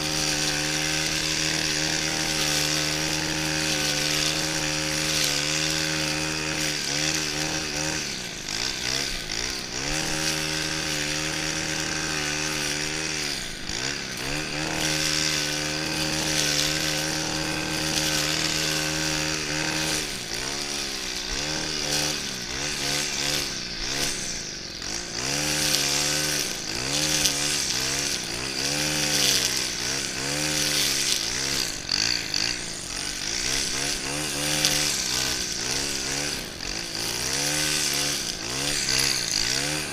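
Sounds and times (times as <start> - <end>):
brushcutter engine revving: 0.0 - 39.9.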